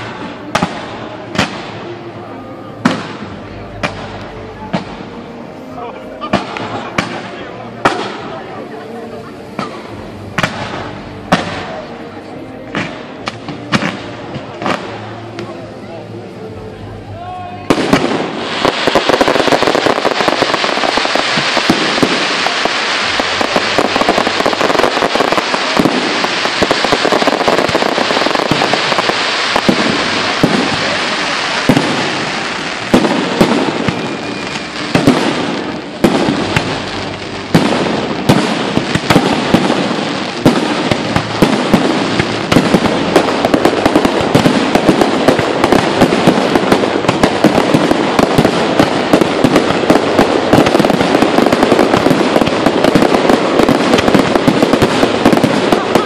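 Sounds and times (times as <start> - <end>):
fireworks bursting and crackling: 0.0 - 56.0
loud firework reports: 0.0 - 56.0.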